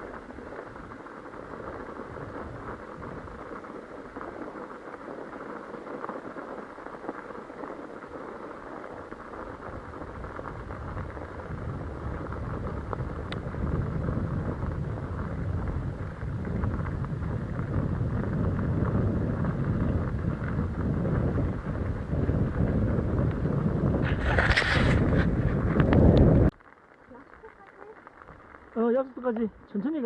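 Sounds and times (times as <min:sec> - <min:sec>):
bicycle tyres crunching on snow: 0:00.0 - 0:30.0
wind rumbling on microphone: 0:00.0 - 0:30.0.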